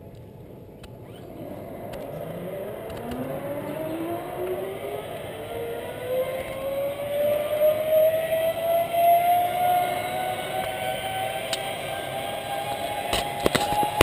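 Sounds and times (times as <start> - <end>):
zipline pulleys whining on cable: 0.8 - 14.0.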